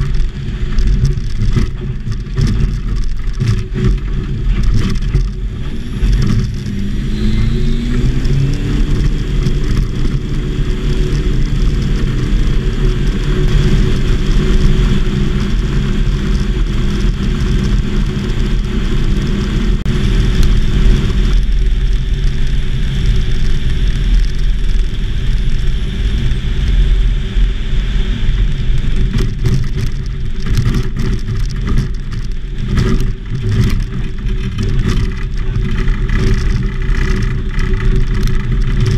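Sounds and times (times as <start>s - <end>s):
light aircraft engine and propeller: 0.0s - 38.9s.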